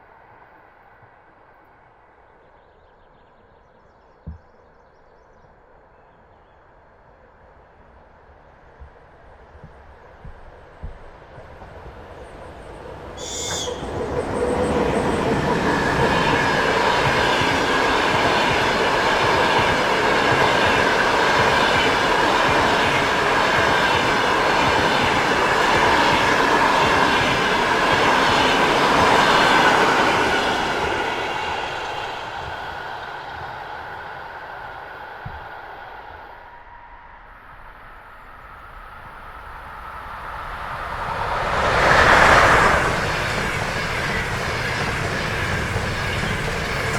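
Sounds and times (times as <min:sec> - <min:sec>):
train wheels rumbling: 0:08.6 - 0:36.8, 0:37.4 - 0:46.9.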